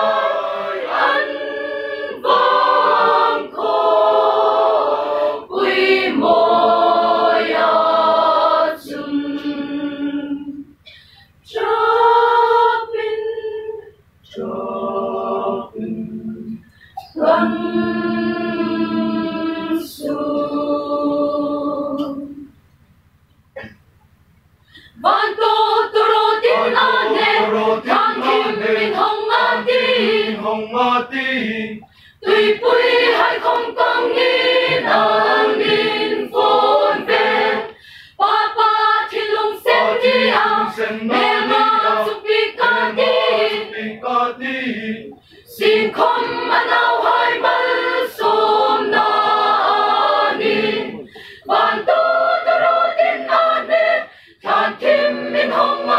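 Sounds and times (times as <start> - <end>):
mixed choir singing: 0.0 - 10.8, 11.4 - 22.5, 24.9 - 55.9.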